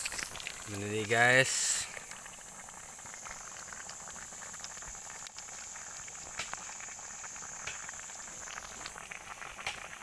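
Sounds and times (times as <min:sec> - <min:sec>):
food sizzling with pops and crackles: 0:00.0 - 0:10.0.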